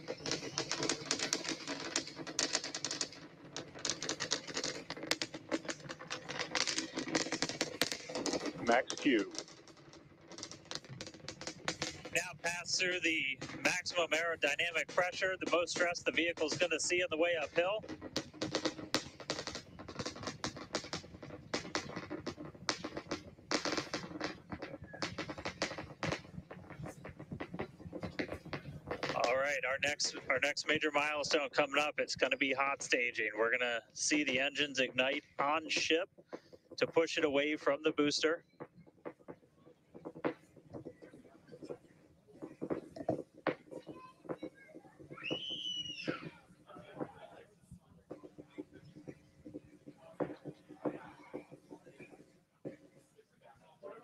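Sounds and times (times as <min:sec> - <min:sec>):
distant rocket engines crackling: 0:00.0 - 0:54.0.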